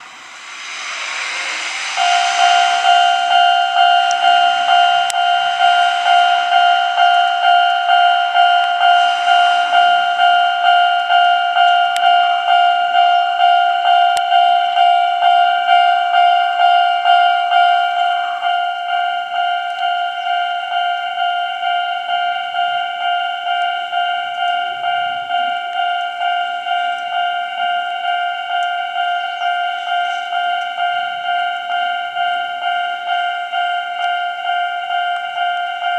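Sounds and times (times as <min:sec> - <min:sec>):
level-crossing electronic bell: 0:00.0 - 0:35.9
train running noise: 0:00.0 - 0:35.9.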